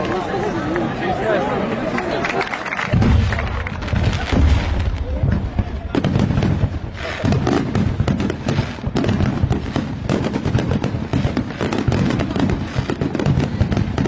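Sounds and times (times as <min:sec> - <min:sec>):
fireworks bursting and crackling: 0:02.7 - 0:14.0.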